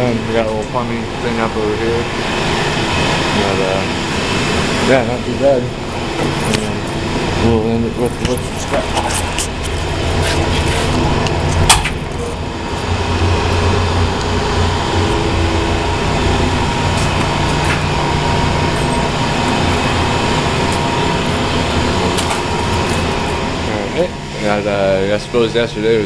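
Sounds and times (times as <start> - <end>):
low machinery hum: 0.0 - 26.0.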